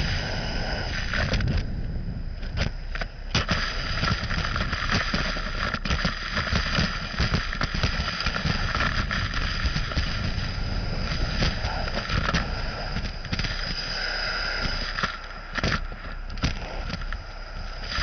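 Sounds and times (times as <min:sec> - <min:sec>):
vacuum high whine: 0:00.0 - 0:18.0.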